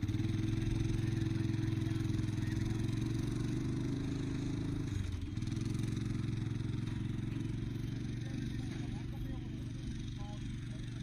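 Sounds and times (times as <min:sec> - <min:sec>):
tow machine engine running: 0:00.0 - 0:11.0.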